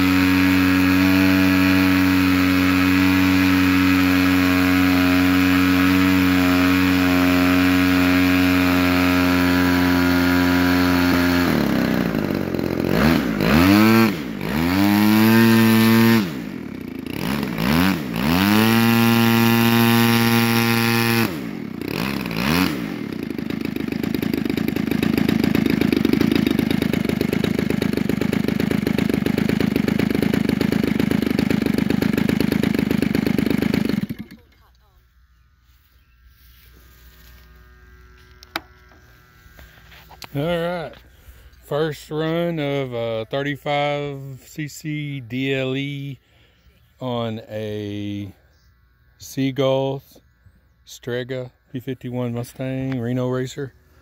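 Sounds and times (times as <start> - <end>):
model airplane engine running: 0.0 - 54.0.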